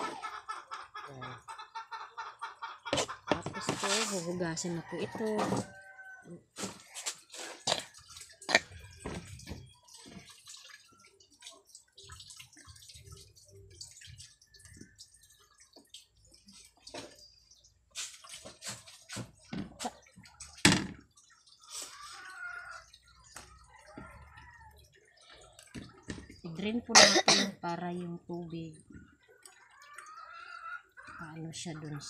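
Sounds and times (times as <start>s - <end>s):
water splashing and dripping: 0.0s - 32.0s.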